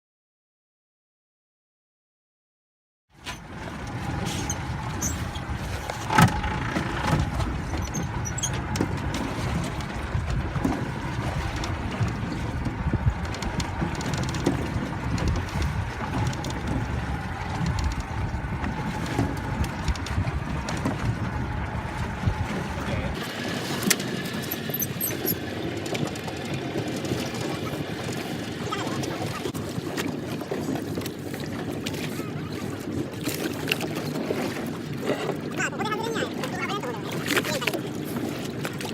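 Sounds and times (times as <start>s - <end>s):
boat engine rumbling: 3.1s - 38.9s.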